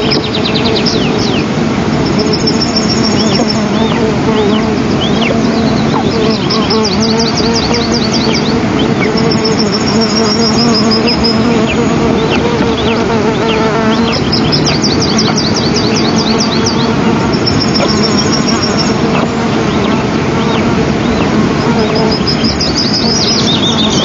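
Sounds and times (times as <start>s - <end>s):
songbird singing: 0.0s - 24.0s
steady noisy hum: 0.0s - 24.0s
downslurred chirps: 2.0s - 24.0s.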